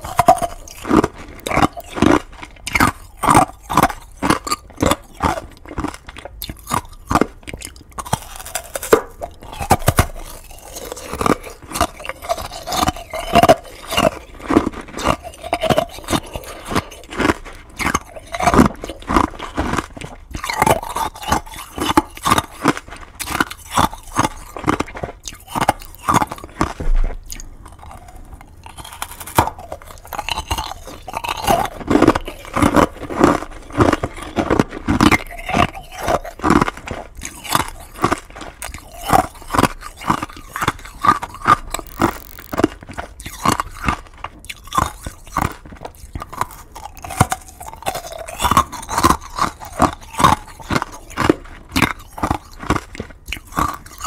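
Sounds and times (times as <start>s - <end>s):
crunching crackles and clicks: 0.0s - 54.0s.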